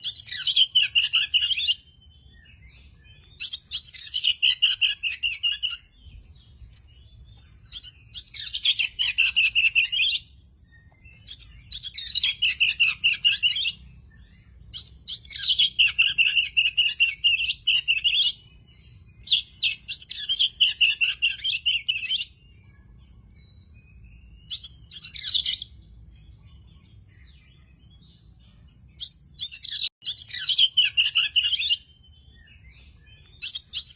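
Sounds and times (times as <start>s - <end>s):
bird singing high-pitched phrases: 0.0s - 33.9s.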